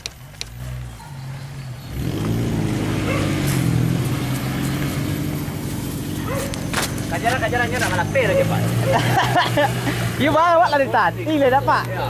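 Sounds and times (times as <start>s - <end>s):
pickup engine revving: 0.2s - 12.0s.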